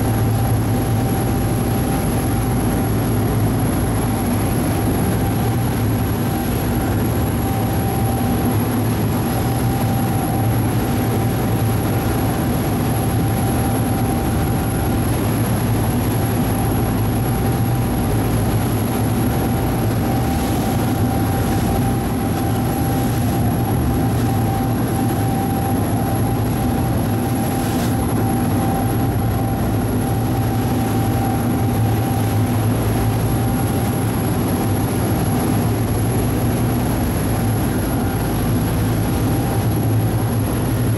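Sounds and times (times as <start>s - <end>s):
ferry engine droning: 0.0s - 40.9s.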